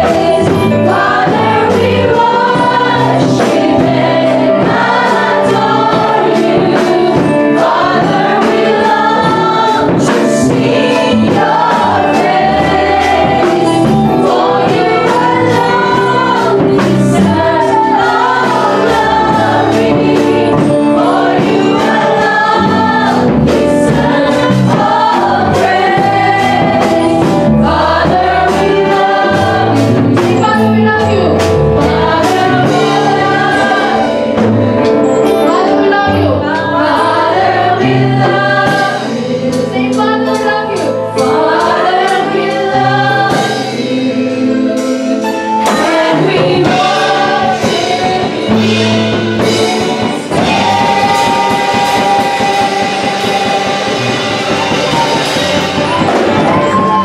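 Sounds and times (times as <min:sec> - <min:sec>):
women singing gospel song: 0:00.0 - 0:31.2, 0:31.8 - 0:57.0
amplified backing music: 0:00.0 - 0:57.0.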